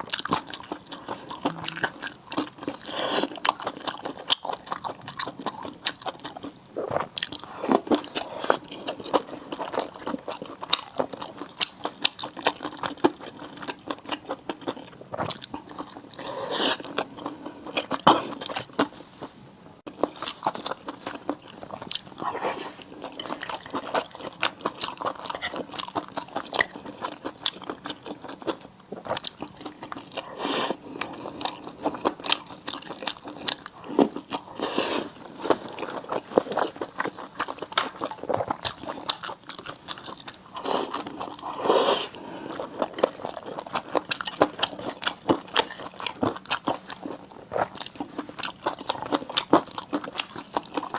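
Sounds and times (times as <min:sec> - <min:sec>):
chewing and biting seafood: 0:00.0 - 0:18.9, 0:19.9 - 0:50.9.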